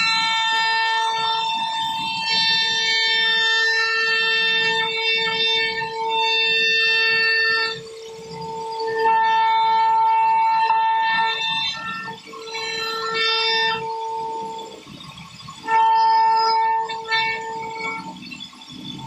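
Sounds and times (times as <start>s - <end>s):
router spindle whining: 0.0s - 19.0s.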